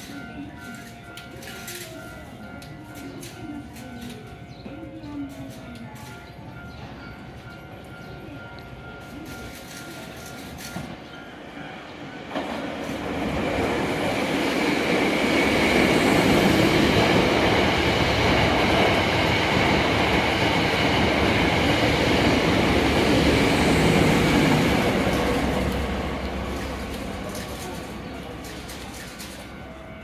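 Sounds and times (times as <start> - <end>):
electric train running on rails: 0.0 - 30.0.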